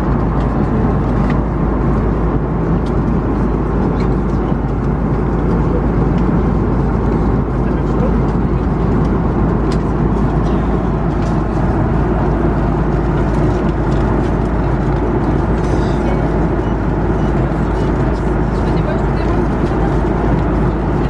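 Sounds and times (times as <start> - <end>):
airliner cabin engine noise: 0.0 - 21.0.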